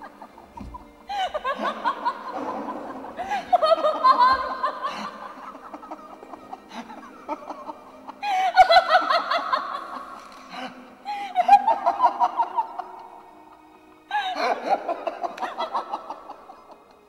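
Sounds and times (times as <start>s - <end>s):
person laughing: 1.1s - 16.7s.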